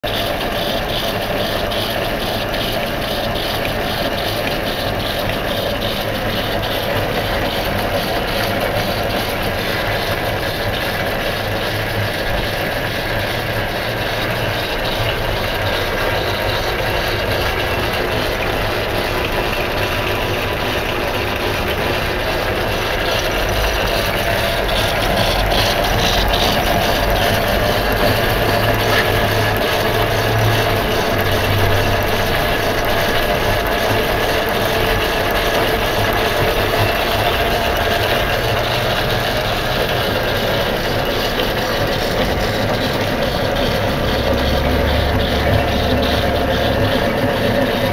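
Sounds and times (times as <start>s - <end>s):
lathe running with hum and whir: 0.0s - 47.9s.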